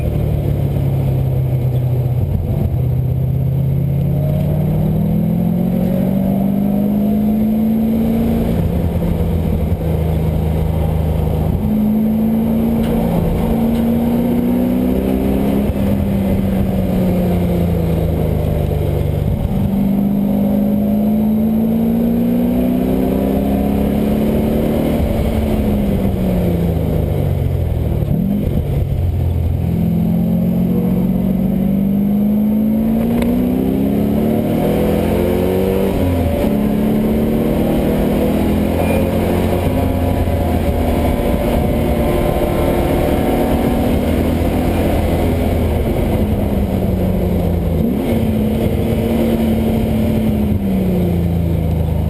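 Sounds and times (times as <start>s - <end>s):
car engine accelerating through gears: 0.0s - 52.0s.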